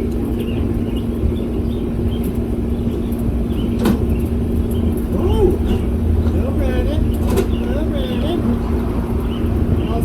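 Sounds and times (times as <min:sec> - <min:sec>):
low hum and rumble: 0:00.0 - 0:10.0
small birds chirping: 0:00.0 - 0:10.0.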